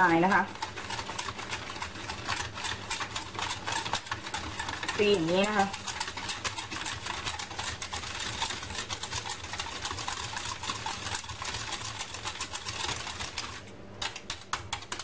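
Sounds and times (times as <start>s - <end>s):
whisk clicking against metal bowl: 0.0s - 15.0s.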